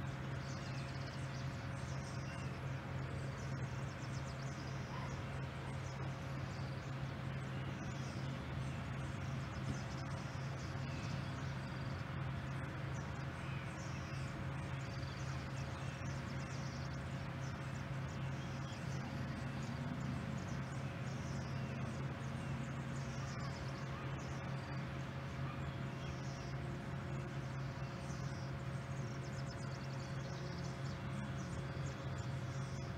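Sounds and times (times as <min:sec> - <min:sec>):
jet engines humming and whining: 0:00.0 - 0:32.9.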